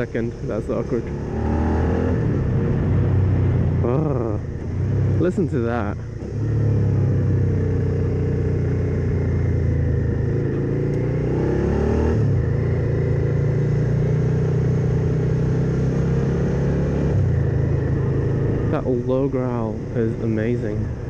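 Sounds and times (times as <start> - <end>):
motorcycle engine growl: 0.0 - 21.0.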